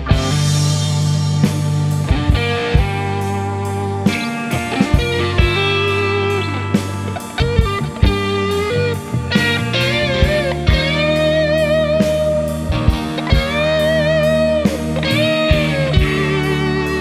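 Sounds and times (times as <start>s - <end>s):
drum kit hits: 0.0s - 16.9s
bass and keyboard backing: 0.0s - 17.0s
electric guitar lead: 0.0s - 17.0s.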